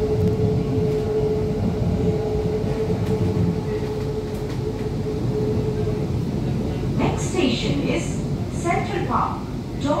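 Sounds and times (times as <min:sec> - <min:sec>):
metro train rumbling: 0:00.0 - 0:10.0
steady train hum: 0:00.0 - 0:10.0.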